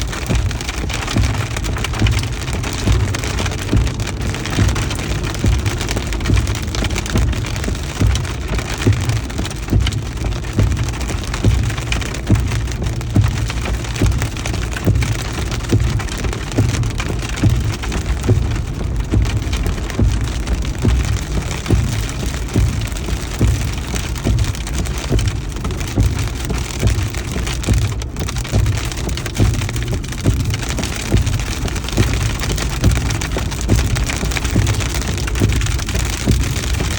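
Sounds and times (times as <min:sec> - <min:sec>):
low rumble of thunder: 0:00.0 - 0:36.9
rain and hail pelting: 0:00.0 - 0:36.9.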